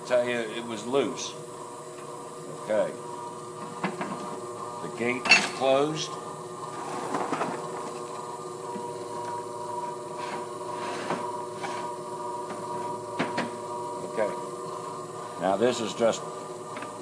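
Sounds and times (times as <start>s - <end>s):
machine electric hum: 0.0s - 17.0s.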